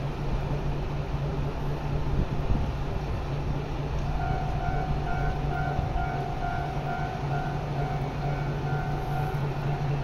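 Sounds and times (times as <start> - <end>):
diesel railcar engine idling: 0.0 - 10.0.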